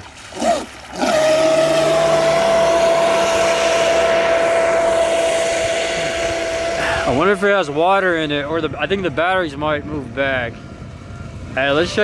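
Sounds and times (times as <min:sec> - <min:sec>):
hull skimming water: 0:00.0 - 0:12.0
speedboat motor whining: 0:00.0 - 0:12.0.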